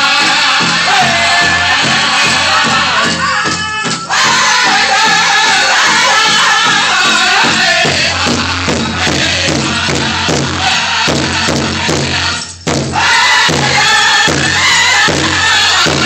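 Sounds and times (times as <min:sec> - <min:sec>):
big drum beats: 0:00.0 - 0:16.0
drum group singing: 0:00.0 - 0:16.0.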